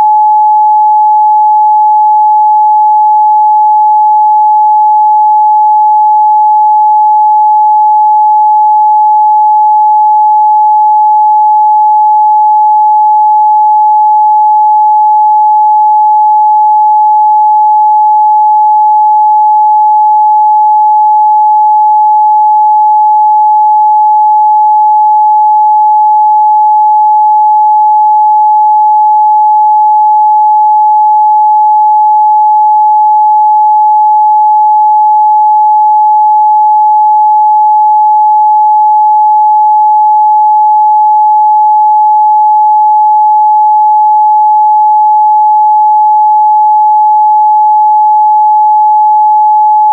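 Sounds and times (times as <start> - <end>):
sine test tone: 0.0 - 49.9.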